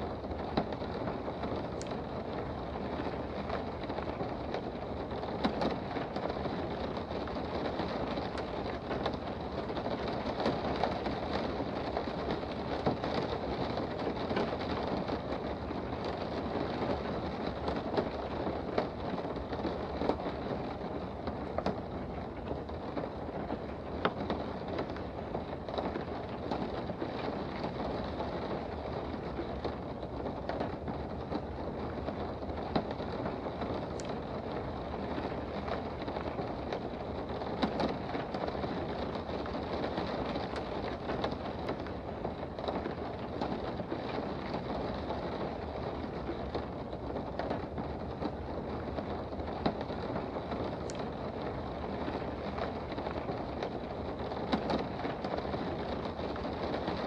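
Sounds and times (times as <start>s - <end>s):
steady rain heard from indoors: 0.0s - 57.0s.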